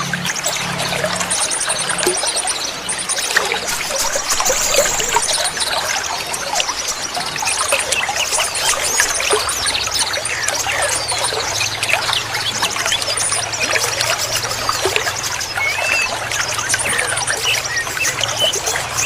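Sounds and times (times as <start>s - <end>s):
small birds chirping and trilling: 0.0s - 19.0s
water trickling: 0.0s - 19.0s.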